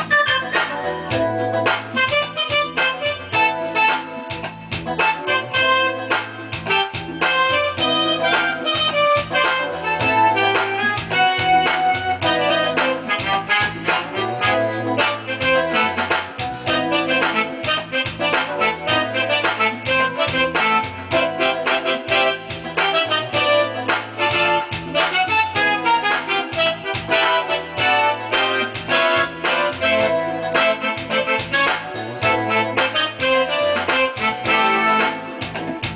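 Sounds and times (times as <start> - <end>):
piano-like keyboard music: 0.0 - 35.9.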